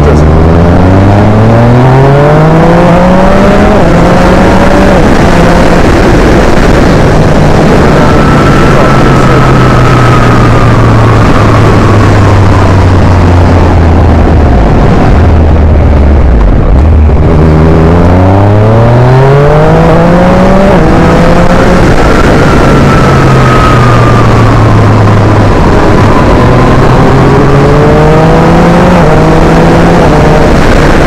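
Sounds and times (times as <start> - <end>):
loud rush of noise: 0.0 - 31.0
motorcycle engine accelerating: 0.0 - 31.0.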